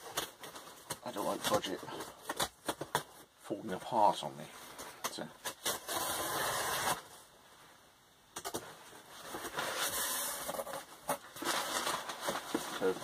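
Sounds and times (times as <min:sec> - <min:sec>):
cardboard packaging rustling: 0:00.0 - 0:03.8, 0:04.6 - 0:07.2, 0:08.4 - 0:13.0.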